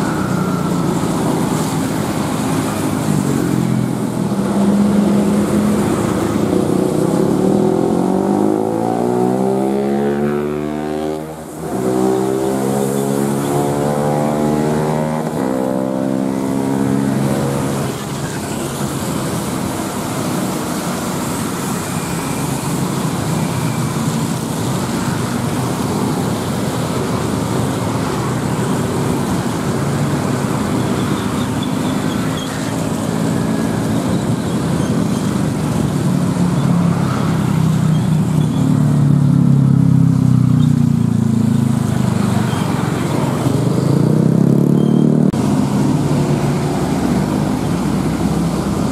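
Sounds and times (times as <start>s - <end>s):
bus diesel engine passing: 0.0s - 48.9s
car and motorcycle engines: 0.0s - 48.9s
heavy engine: 0.0s - 48.9s
tyres hissing on wet road: 0.0s - 48.9s.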